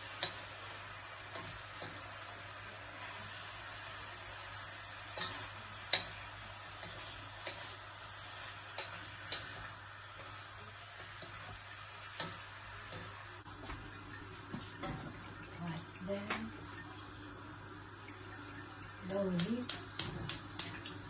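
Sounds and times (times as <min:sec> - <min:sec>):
pork sizzling in a wok: 0:00.0 - 0:16.8, 0:19.0 - 0:21.0.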